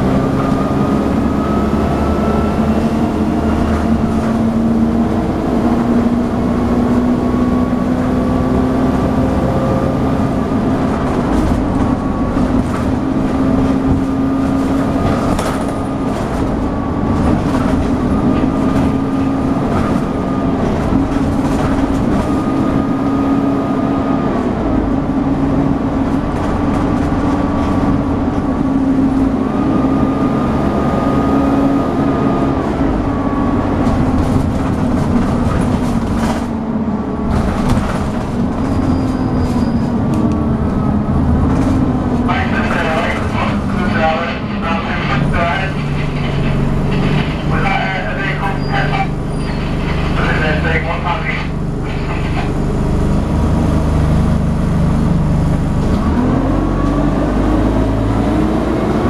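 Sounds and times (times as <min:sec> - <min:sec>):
bus engine whining under load: 0:00.0 - 0:59.0
road noise: 0:00.0 - 0:59.0.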